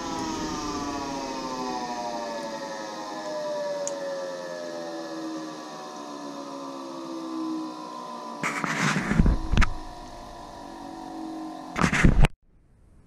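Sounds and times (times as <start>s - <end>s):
motor whining: 0.0s - 12.0s.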